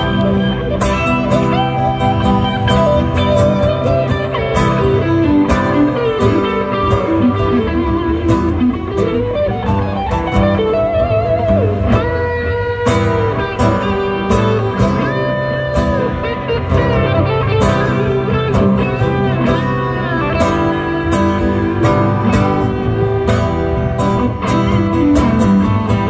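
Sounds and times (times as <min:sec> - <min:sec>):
lead guitar bending notes: 0:00.0 - 0:26.0
rhythm guitar chords: 0:00.0 - 0:26.0.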